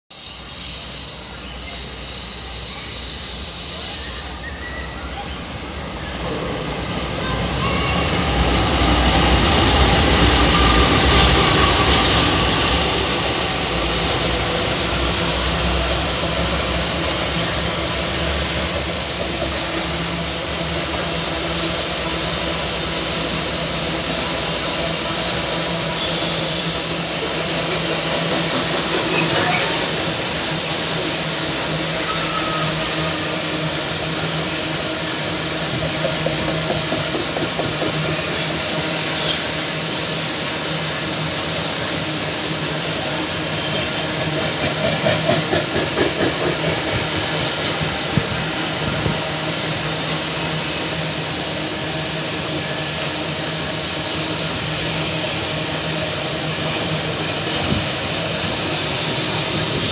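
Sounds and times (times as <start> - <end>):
diesel locomotive engine rumble: 0.1 - 59.9
steel wheels rolling on rail: 0.2 - 59.9.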